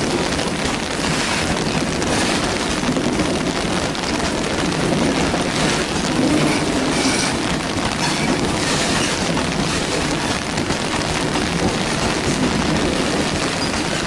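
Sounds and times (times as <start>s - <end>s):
falling rain: 0.0s - 14.0s
train wheels on rail: 0.0s - 14.0s.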